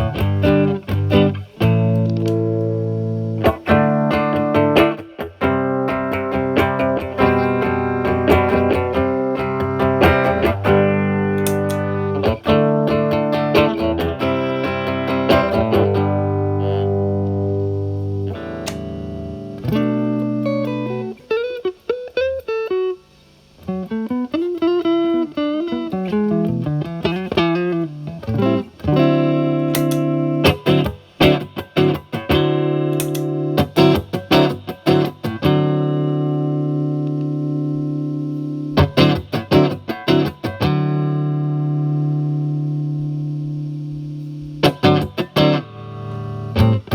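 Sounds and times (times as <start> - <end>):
electric guitar with clean tone: 0.0 - 46.9.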